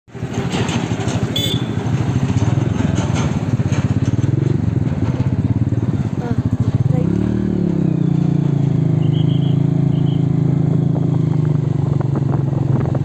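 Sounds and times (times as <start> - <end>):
motorcycle engine chugging: 0.1 - 13.0.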